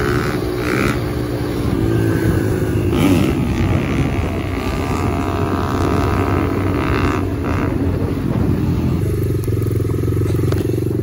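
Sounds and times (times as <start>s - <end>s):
dirt bike engine running: 0.0s - 11.0s
wind buffeting microphone: 0.0s - 11.0s.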